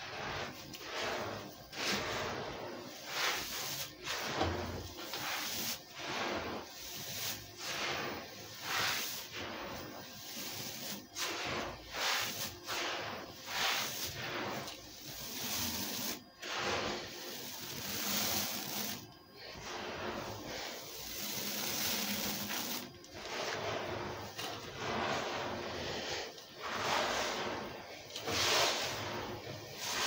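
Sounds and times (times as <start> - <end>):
grit scraped across cement floor: 0.0 - 30.0.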